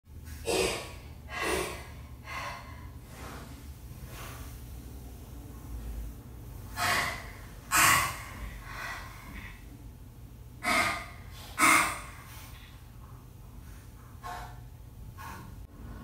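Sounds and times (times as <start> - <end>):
low steady hum: 0.1 - 16.0.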